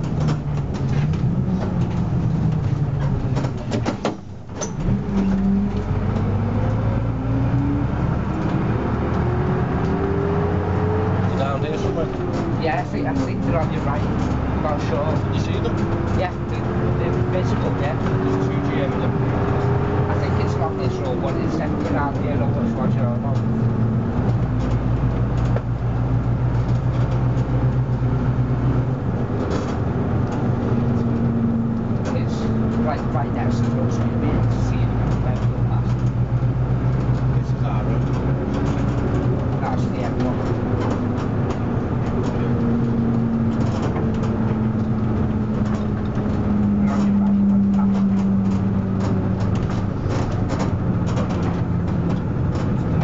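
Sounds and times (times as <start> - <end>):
bus body rattles: 0.0 - 53.0
bus diesel engine droning: 0.0 - 53.0
road noise: 0.0 - 53.0.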